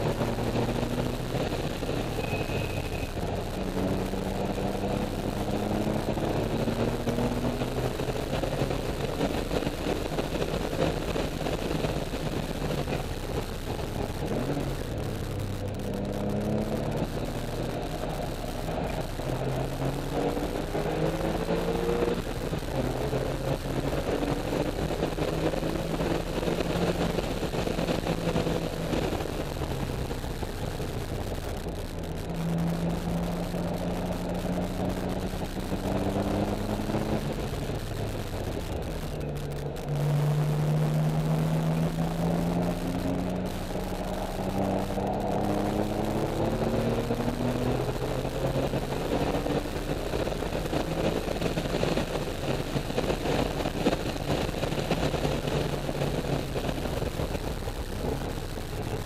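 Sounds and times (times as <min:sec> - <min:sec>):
car engine at full throttle: 0:00.0 - 0:59.0
wind and road noise: 0:00.0 - 0:59.0.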